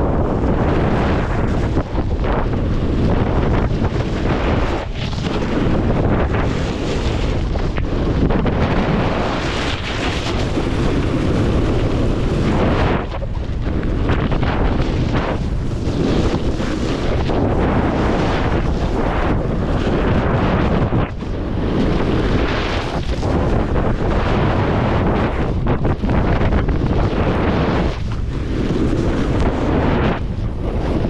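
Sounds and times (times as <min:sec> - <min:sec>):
snowboard edges carving snow: 0:00.0 - 0:31.0
wind rumble on microphone: 0:00.0 - 0:31.0.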